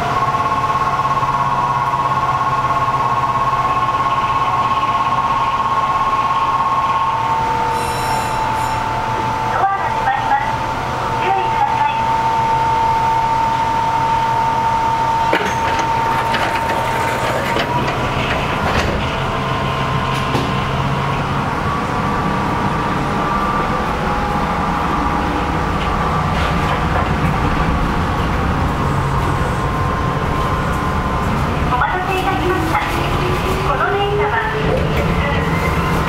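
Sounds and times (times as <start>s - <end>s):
train equipment whine: 0.0s - 36.0s.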